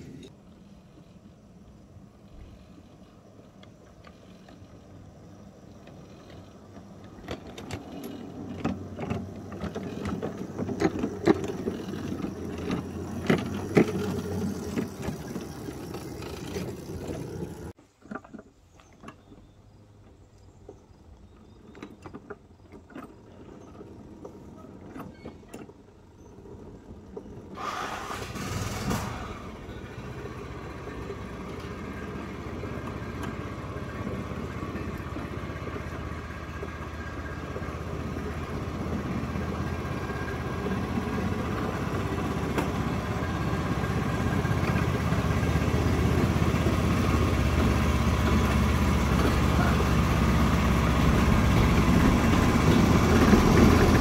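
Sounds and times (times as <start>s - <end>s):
train wheels clicking over rail joints: 0.0s - 54.0s
train cars rattling: 5.7s - 17.7s, 22.2s - 54.0s.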